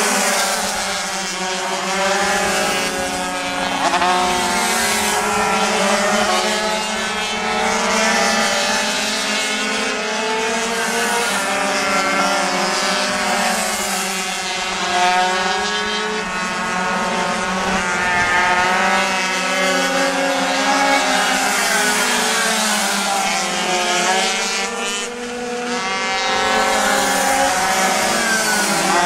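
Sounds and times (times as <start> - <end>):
racing motorcycle engines revving: 0.0 - 29.0.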